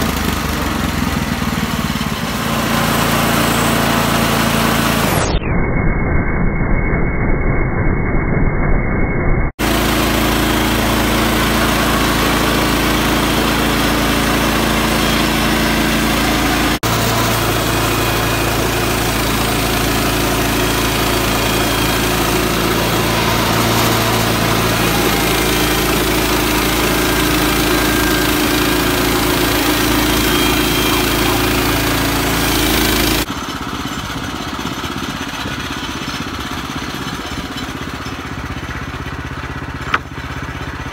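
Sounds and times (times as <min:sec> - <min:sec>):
sawmill engine running: 0:00.0 - 0:05.4, 0:09.6 - 0:40.9.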